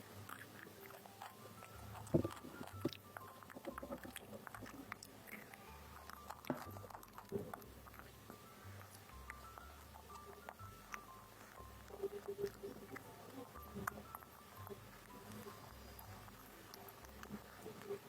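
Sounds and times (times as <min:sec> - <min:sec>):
child chewing: 0:00.0 - 0:18.0
faint tinkly music: 0:00.0 - 0:18.0
utensils clicking and tapping: 0:00.0 - 0:18.0.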